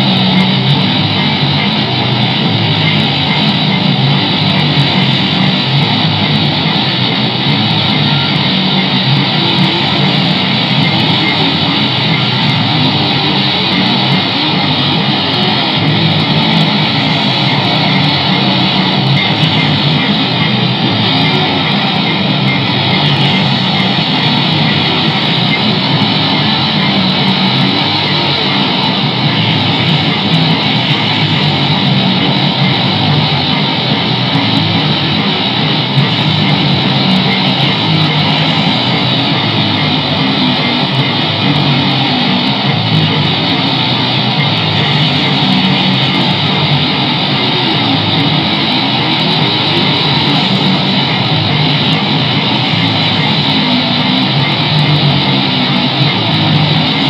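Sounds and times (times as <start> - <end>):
bass guitar: 0.0 - 57.0
electric guitar: 0.0 - 57.0.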